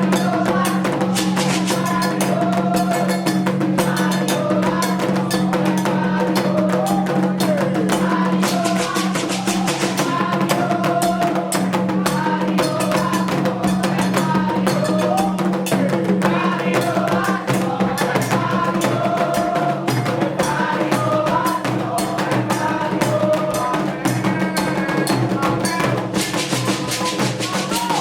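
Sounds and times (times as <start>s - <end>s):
group singing: 0.0s - 28.0s
hand drums in fast rhythm: 0.0s - 28.0s.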